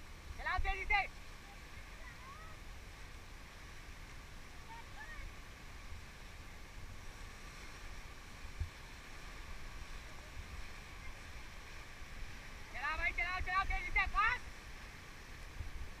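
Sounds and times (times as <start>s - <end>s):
rushing whitewater: 0.0s - 16.0s.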